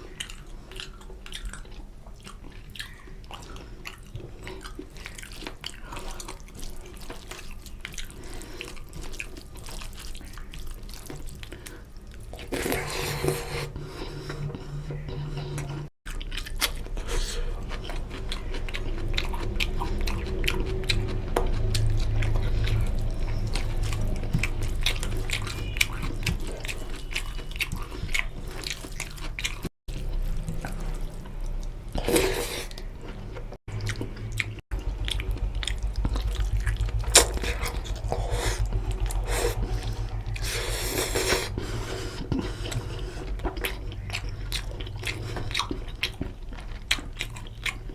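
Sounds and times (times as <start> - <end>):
wet chewing and lip smacks: 0.1 - 12.8, 15.6 - 47.9.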